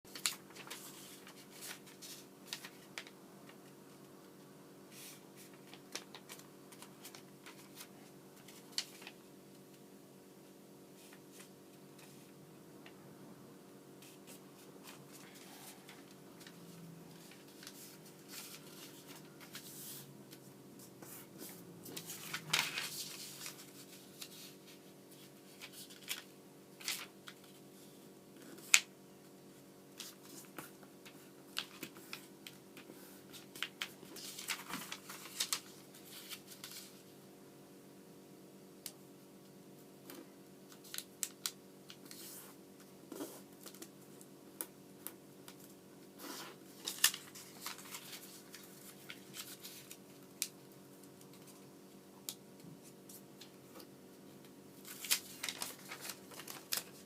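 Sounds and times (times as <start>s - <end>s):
paper rustling and folding: 0.1s - 4.0s, 4.9s - 9.2s, 14.0s - 28.9s, 30.0s - 37.1s, 40.1s - 44.2s, 45.5s - 57.0s
low electrical hum: 0.1s - 57.0s.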